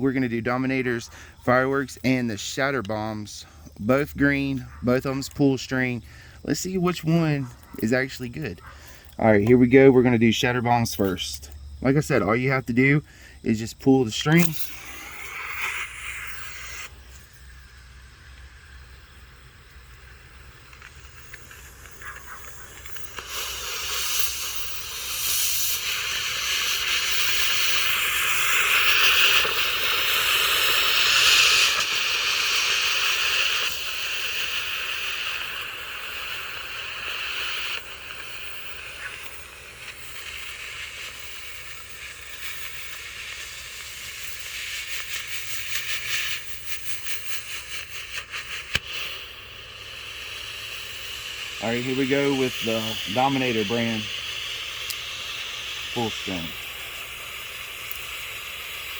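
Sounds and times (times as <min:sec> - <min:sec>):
smoke grenade hissing: 0:00.0 - 0:58.9.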